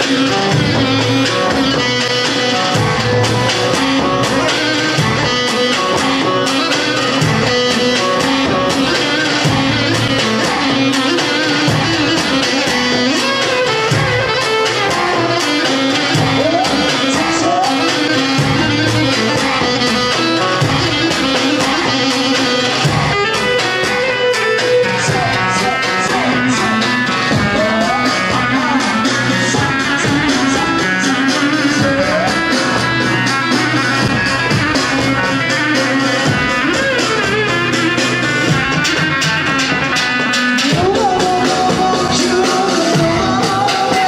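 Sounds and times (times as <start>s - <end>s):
plucked-string dance music: 0.0s - 44.0s.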